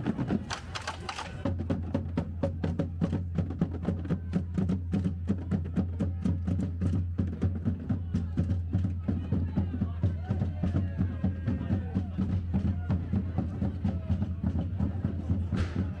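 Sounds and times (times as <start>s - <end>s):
marching band drums beating: 0.0s - 16.0s.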